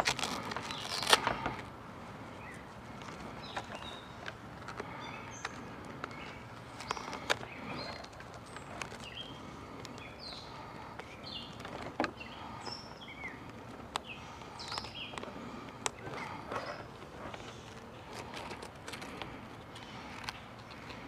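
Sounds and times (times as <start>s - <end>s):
small birds chirping: 2.1s - 21.0s.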